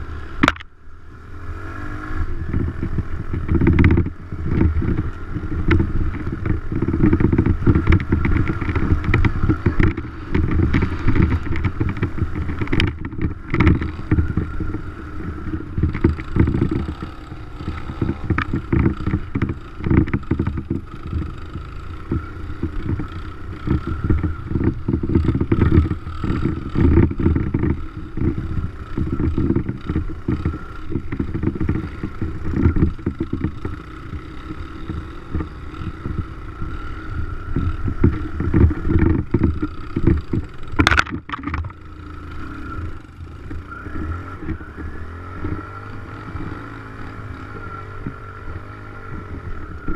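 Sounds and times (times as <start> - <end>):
dirt bike engine: 0.0 - 49.9
wind buffeting microphone: 2.2 - 41.8, 42.4 - 49.9.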